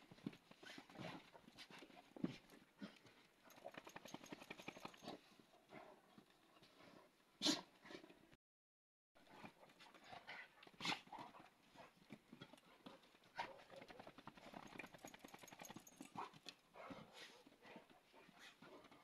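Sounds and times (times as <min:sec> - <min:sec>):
dogs' paws scuffling on dirt: 0:00.0 - 0:06.8, 0:09.3 - 0:19.0.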